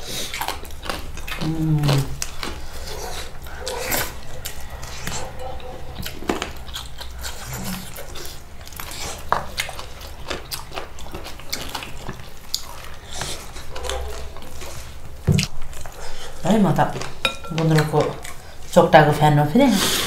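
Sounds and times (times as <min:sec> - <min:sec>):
chewing and biting food: 0:00.0 - 0:18.7.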